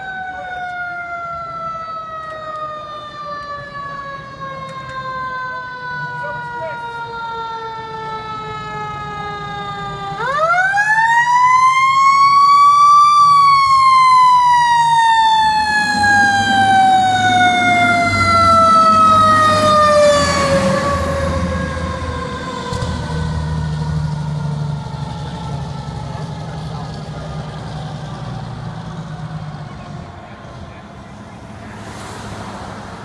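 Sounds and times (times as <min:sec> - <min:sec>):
fire engine siren: 0:00.0 - 0:33.0
truck engine rumbling: 0:00.0 - 0:33.0.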